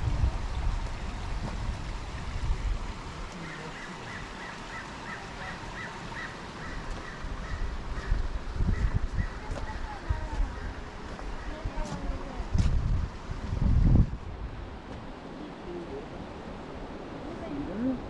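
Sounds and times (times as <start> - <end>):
wind rumble on microphone: 0.0 - 3.4, 6.6 - 18.0.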